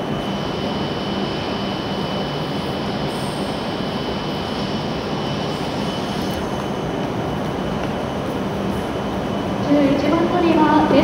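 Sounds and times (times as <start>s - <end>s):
idling train equipment hum: 0.0s - 11.0s
thin high whine: 0.0s - 11.0s.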